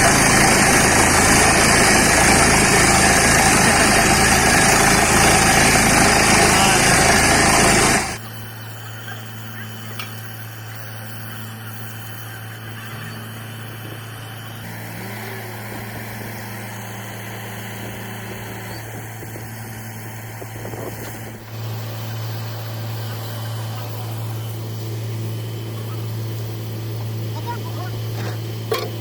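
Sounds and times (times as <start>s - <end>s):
drilling rig droning: 0.0s - 29.0s.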